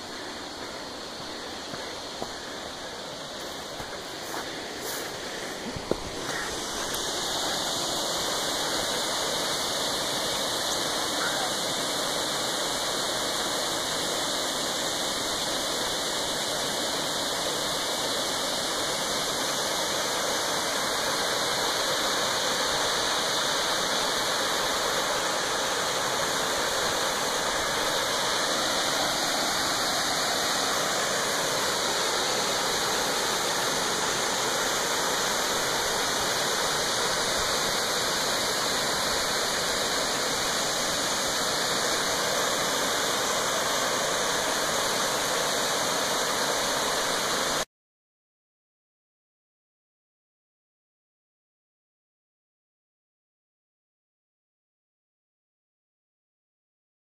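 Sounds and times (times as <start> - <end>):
waterfall rushing over rocks: 0.0 - 47.7.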